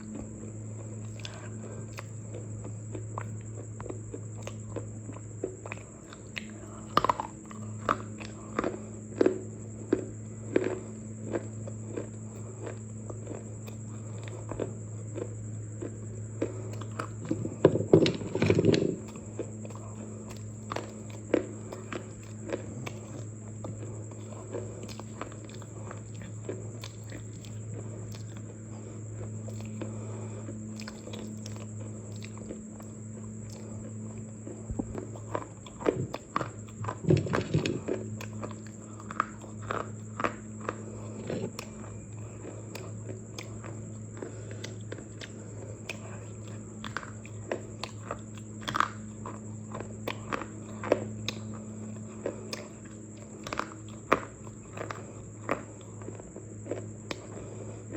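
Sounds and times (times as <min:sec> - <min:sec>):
person chewing crunchy food: 0:00.0 - 0:57.9
steady low hum: 0:00.0 - 0:57.9.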